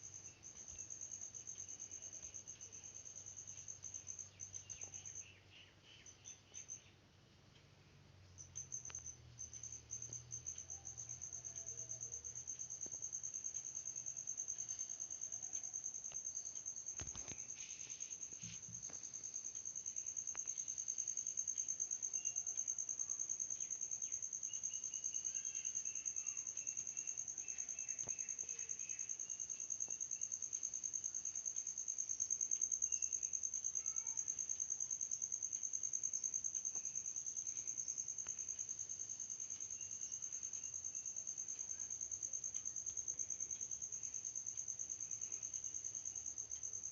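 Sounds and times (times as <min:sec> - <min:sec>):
high-pitched insect trill: 0:00.0 - 0:06.9, 0:08.4 - 0:46.9
lower insect trill: 0:00.0 - 0:07.0, 0:08.0 - 0:46.9.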